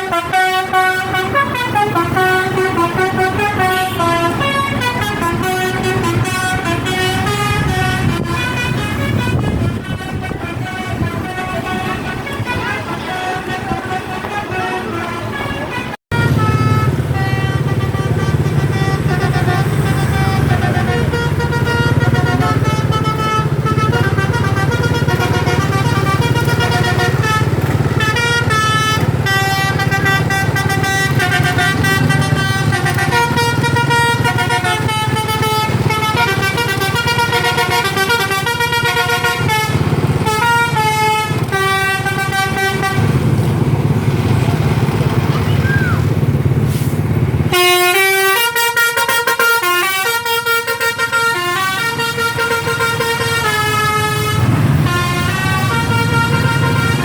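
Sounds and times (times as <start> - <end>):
bus engine humming: 0.0 - 57.0
multi-tone bus horn playing a tune: 0.0 - 57.0.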